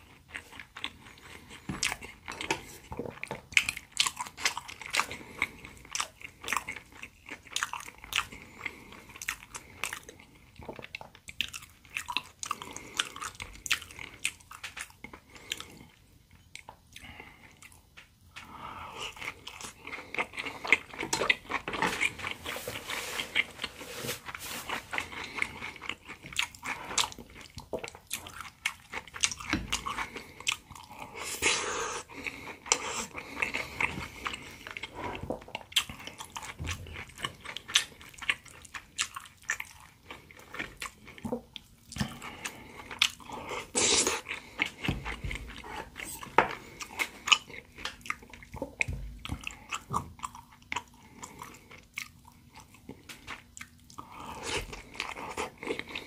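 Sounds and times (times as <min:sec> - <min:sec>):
chewing and biting food: 0:00.0 - 0:23.8, 0:24.7 - 0:56.0.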